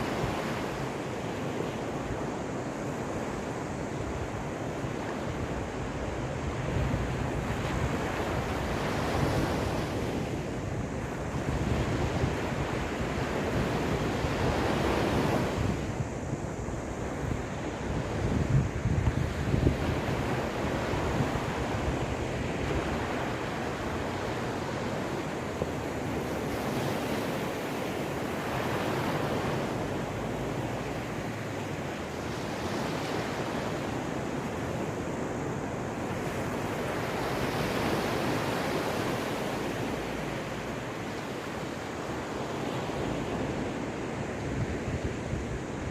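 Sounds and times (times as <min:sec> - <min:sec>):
sea waves breaking on shore: 0:00.0 - 0:45.9
wind rumbling on microphone: 0:00.0 - 0:45.9.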